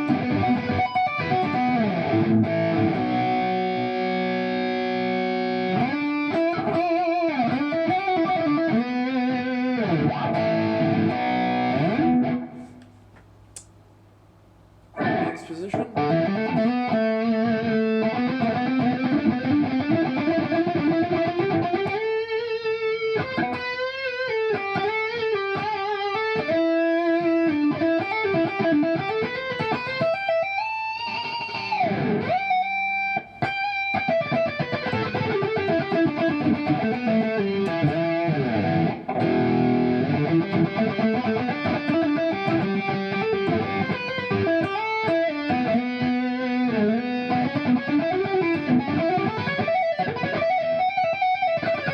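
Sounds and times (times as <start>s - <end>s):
distorted electric guitar lead: 0.0s - 12.8s, 15.0s - 51.9s.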